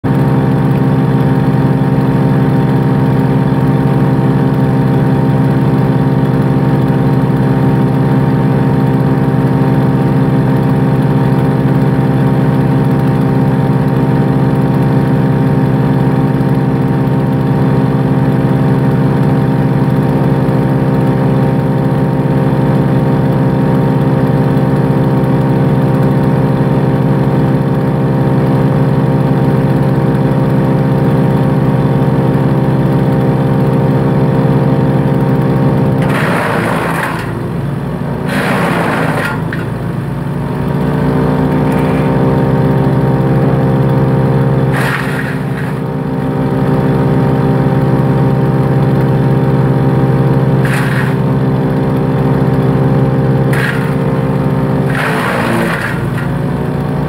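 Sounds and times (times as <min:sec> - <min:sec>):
wood chipper engine running: 0:00.0 - 0:57.0.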